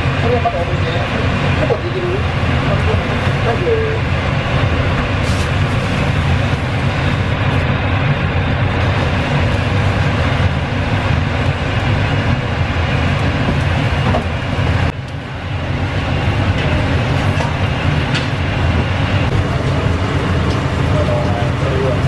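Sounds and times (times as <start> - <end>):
loud mechanical rumble: 0.0 - 22.0.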